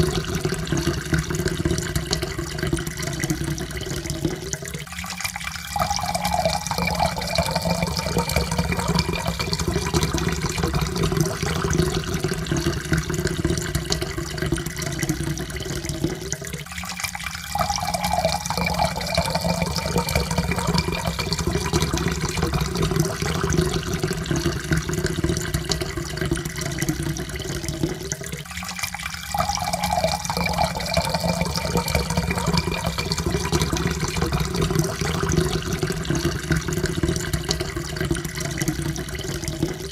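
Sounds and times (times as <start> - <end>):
water pouring into a cup: 0.0 - 39.9.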